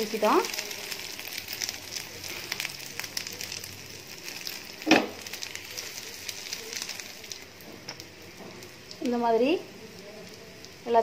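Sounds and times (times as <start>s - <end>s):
batter sizzling in hot oil: 0.0s - 11.0s.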